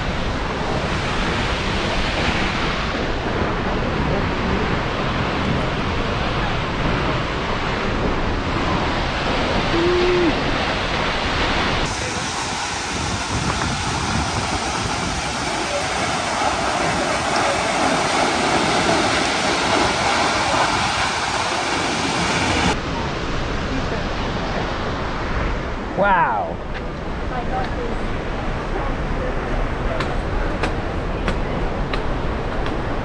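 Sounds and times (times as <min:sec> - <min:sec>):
whitewater rushing: 0:00.0 - 0:33.0.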